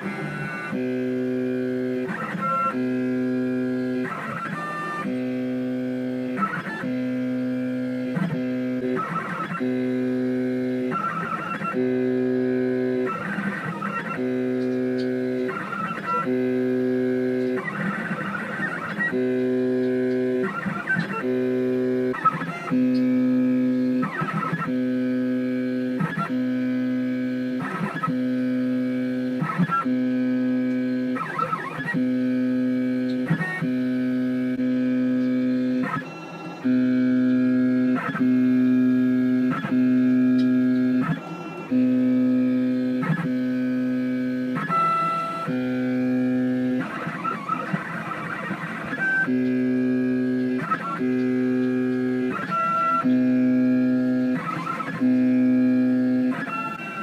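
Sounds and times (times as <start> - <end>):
stepper motors humming: 0.0 - 57.0.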